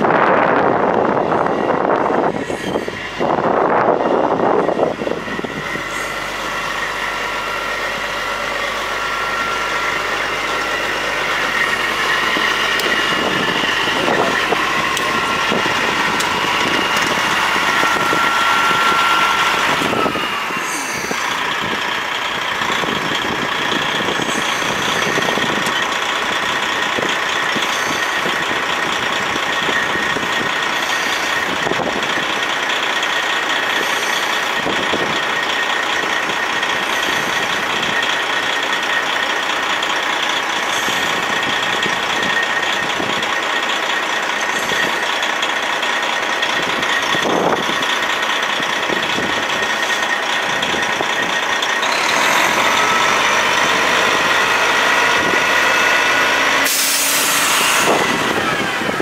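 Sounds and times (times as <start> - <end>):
diesel truck engine idling: 0.0 - 59.0
loud buffeting: 0.0 - 59.0
steady whine: 0.0 - 59.0
hydraulic hoist raising: 1.4 - 32.1, 40.6 - 59.0.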